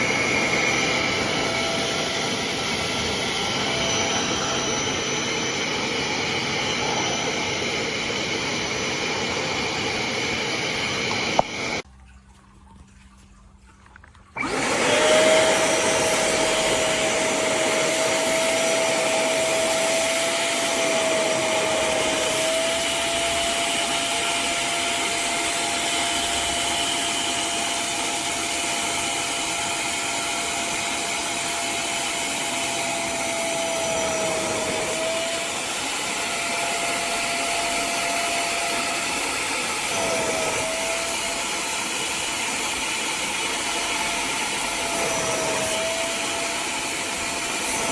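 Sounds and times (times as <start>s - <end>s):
spot cleaner suction motor whine: 0.0s - 11.8s, 14.4s - 47.9s.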